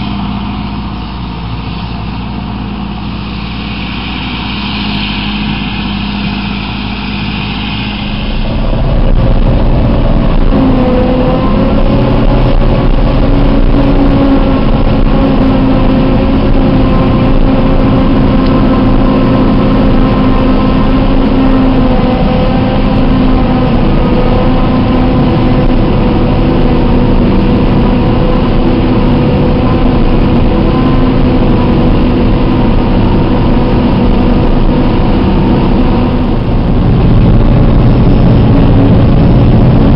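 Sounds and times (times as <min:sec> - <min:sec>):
harvester engine drone with whine: 0:00.0 - 0:39.9.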